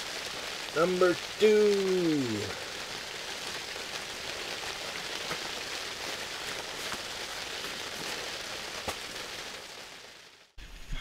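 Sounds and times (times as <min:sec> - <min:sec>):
rain pattering on fabric roof: 0:00.0 - 0:11.0.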